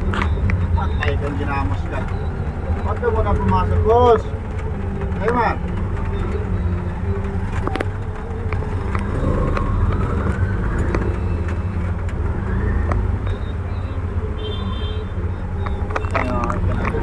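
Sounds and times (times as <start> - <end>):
rising whine: 0.0 - 14.4
engine low rumble: 0.0 - 17.0.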